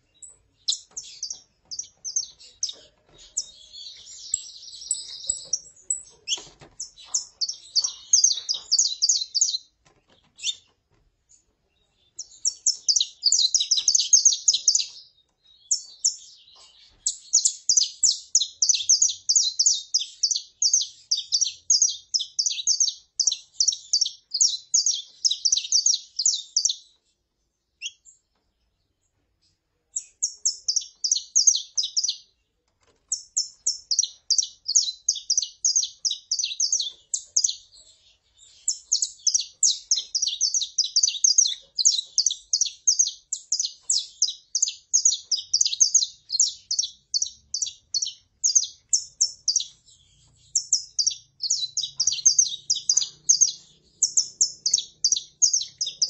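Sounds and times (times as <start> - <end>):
finches chirping: 0.0 - 27.2, 29.9 - 32.3, 33.1 - 56.0.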